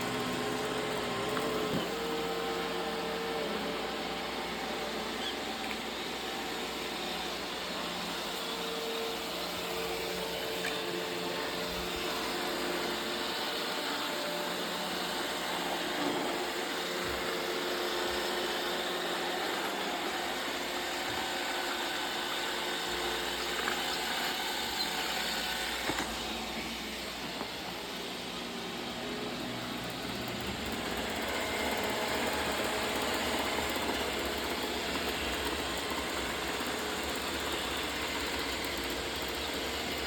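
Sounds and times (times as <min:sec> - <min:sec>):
robot vacuum motor and brush: 0:00.0 - 0:40.0.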